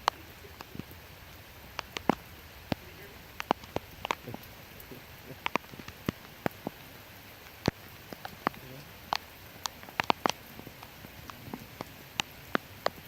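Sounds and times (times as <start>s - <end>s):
rain hissing: 0.0s - 13.0s
raindrops tapping near microphone: 0.0s - 13.0s.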